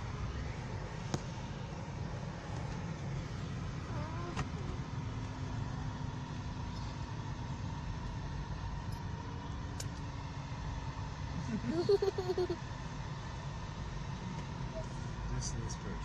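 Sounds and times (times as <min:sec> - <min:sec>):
low rumble of moving car: 0:00.0 - 0:16.0.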